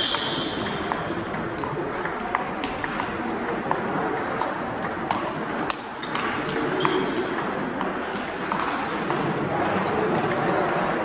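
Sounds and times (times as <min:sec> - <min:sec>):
table tennis balls clicking: 0:00.0 - 0:09.4.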